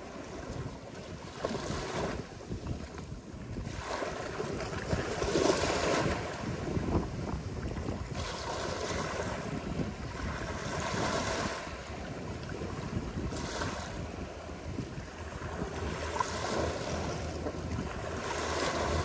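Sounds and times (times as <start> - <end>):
ocean waves breaking on beach: 0.0 - 19.0
wind rumble on microphone: 0.0 - 19.0.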